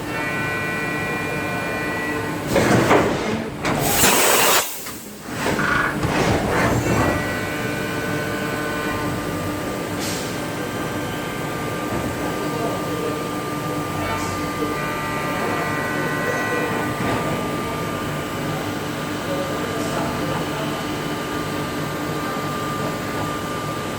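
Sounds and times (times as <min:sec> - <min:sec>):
clattering mechanical noise: 0:00.0 - 0:23.9
machine steady whine: 0:00.0 - 0:23.9.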